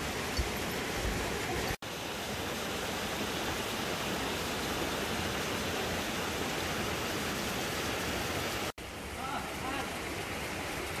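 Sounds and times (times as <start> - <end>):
creek water over rocks: 0.0 - 11.0.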